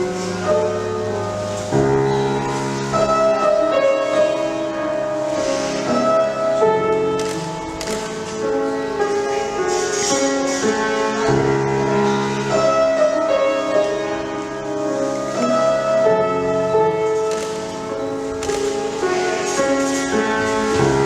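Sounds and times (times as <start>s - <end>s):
piano chords with melody: 0.0s - 21.0s.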